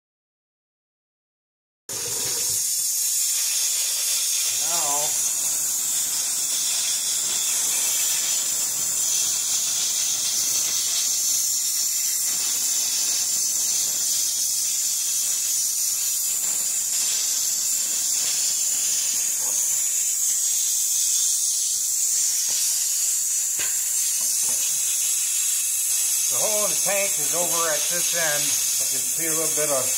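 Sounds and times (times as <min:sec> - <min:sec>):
compressed air hissing: 0:02.1 - 0:29.9.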